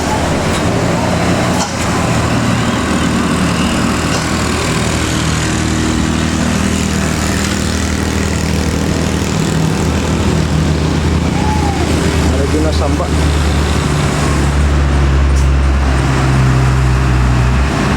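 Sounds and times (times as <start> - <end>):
bus diesel engine droning: 0.0 - 17.9.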